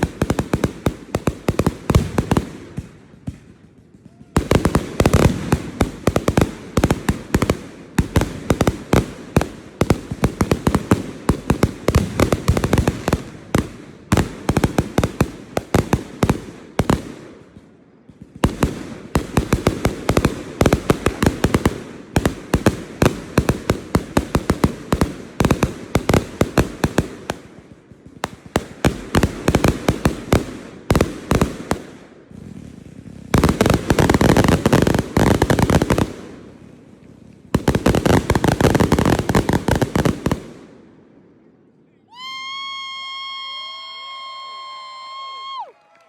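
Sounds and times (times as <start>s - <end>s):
fireworks crackling: 0.0s - 40.9s
fireworks bangs: 0.0s - 41.2s.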